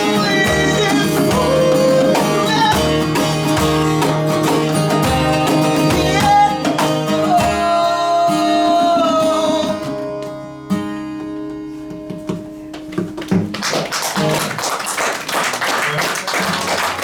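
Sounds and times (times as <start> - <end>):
band with guitars playing: 0.0 - 14.6.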